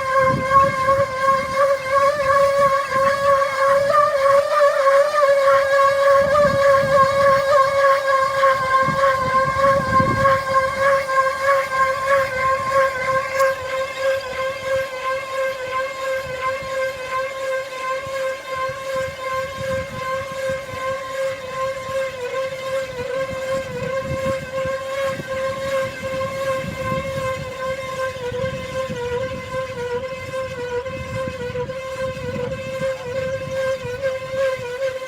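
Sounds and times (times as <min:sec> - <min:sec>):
motor high whine: 0:00.0 - 0:35.0.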